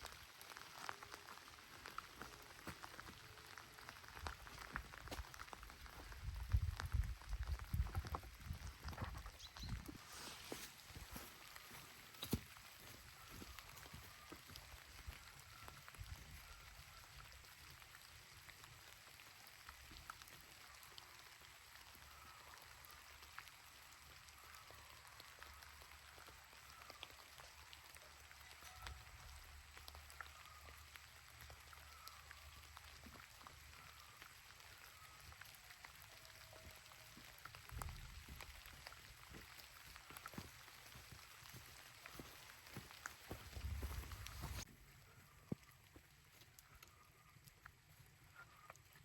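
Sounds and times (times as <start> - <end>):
faint rain pattering: 0.0 - 49.0.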